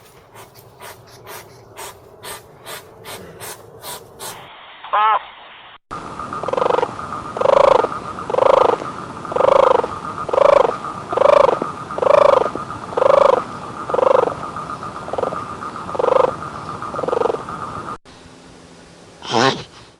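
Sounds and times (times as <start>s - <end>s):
animal calling: 0.0s - 5.2s, 6.4s - 17.6s.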